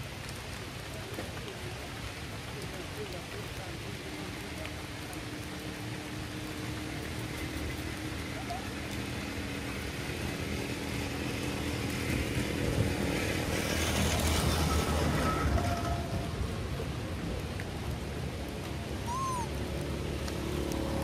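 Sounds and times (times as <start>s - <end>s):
rain falling on puddles: 0.0s - 21.0s.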